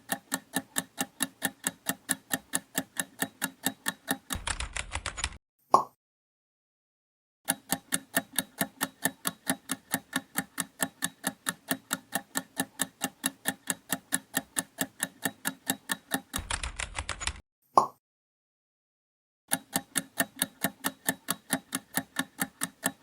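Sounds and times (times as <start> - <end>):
clock-like timer ticks: 0.0 - 5.4, 7.5 - 17.4, 19.5 - 23.0.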